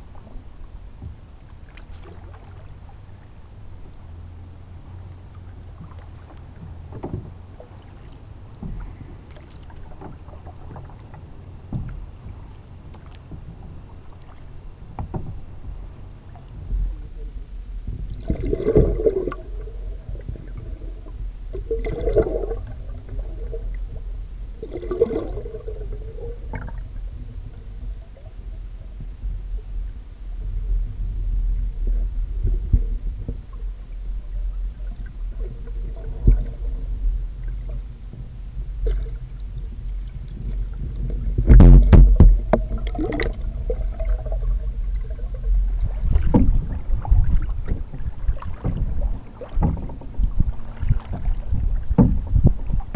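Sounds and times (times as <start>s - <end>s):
muffled underwater rumble: 0.0s - 52.9s
water churning: 0.0s - 52.9s
water swishes: 0.0s - 52.9s.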